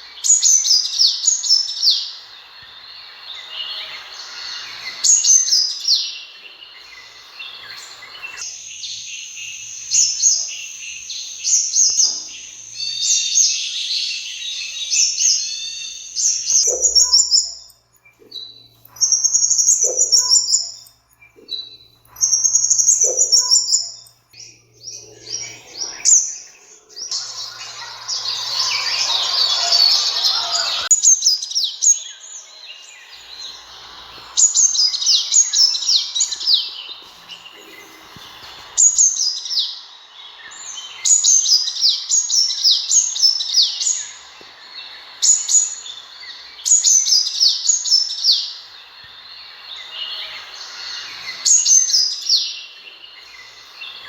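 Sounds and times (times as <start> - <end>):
sunbird chirps and trills: 0.0 - 54.0.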